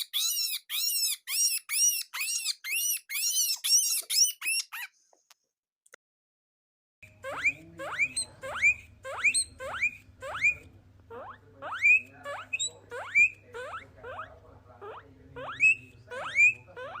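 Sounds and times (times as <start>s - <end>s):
guinea pig wheeking: 0.0s - 4.9s, 7.1s - 17.0s.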